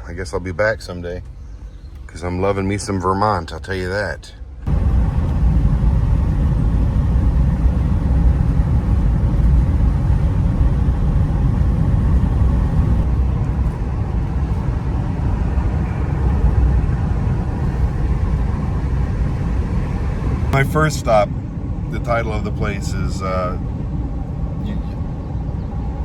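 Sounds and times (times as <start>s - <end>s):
van engine and road noise: 0.0s - 26.0s.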